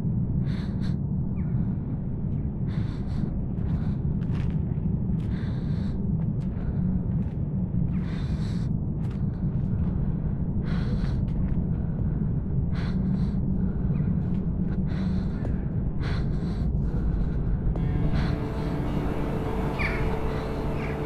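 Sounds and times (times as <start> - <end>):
steady low rumble: 0.0 - 21.0
person gasping breaths: 0.4 - 1.0, 2.6 - 4.1, 5.2 - 6.9, 7.9 - 21.0.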